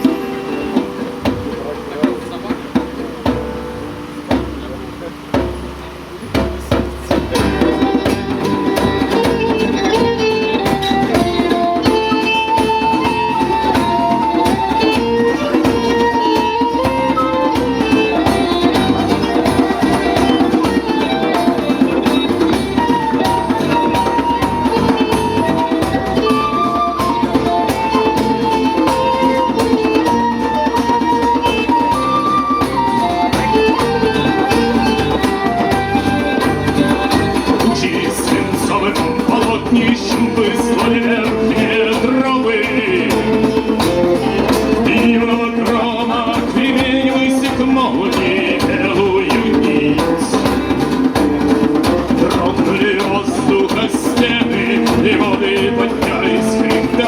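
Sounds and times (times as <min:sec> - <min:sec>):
fast hand percussion: 0:00.0 - 0:57.0
folk band playing: 0:00.0 - 0:57.0.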